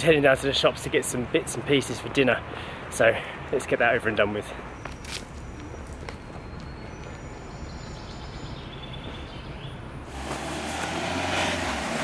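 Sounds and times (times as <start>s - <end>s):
low traffic hum: 0.0s - 12.0s.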